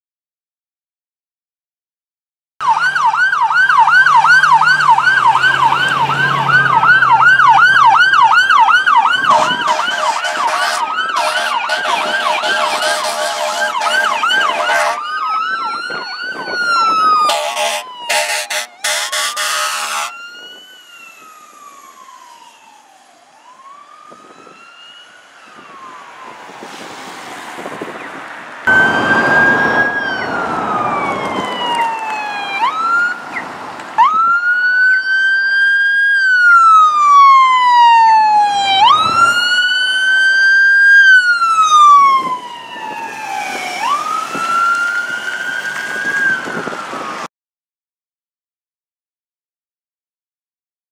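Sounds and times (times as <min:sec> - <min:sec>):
ambulance siren wailing: 0:02.6 - 0:47.3
traffic noise: 0:02.6 - 0:47.3.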